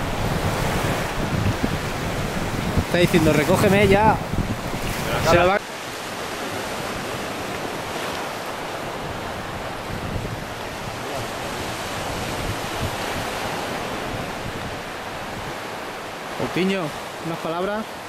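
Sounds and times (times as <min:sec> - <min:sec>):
wind buffeting microphone: 0:00.0 - 0:16.4
waves breaking on beach: 0:00.0 - 0:18.0.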